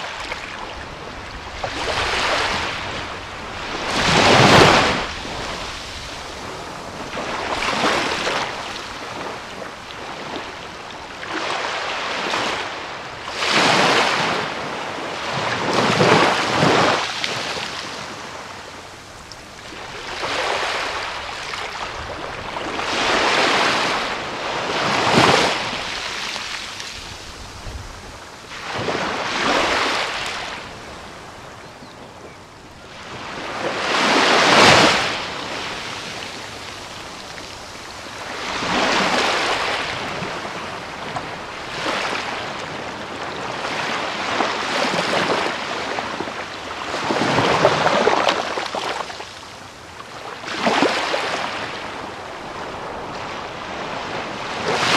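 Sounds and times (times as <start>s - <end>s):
small waves washing on beach: 0.0s - 54.9s.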